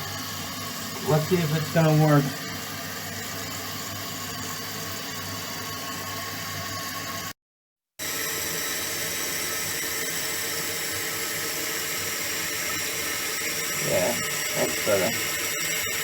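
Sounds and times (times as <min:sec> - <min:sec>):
water hissing into toilet tank: 0:00.0 - 0:07.4, 0:08.0 - 0:16.0.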